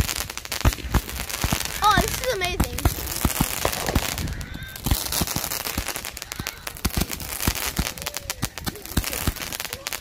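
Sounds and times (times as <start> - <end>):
fireworks popping and crackling: 0.0 - 10.0.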